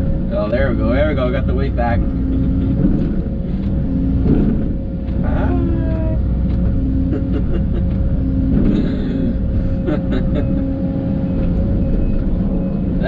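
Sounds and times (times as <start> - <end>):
excavator diesel engine humming: 0.0 - 13.0
hydraulics whining: 0.0 - 13.0.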